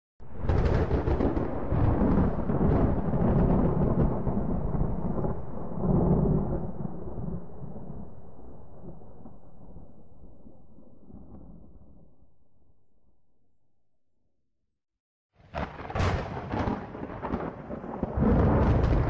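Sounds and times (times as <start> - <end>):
thunderclap rumbling: 0.2 - 12.2, 15.4 - 19.0.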